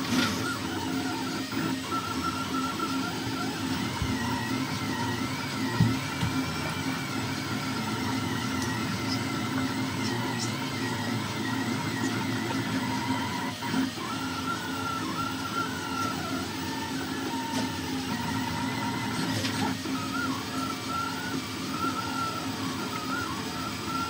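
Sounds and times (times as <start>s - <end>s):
stepper motors whining: 0.0s - 24.0s.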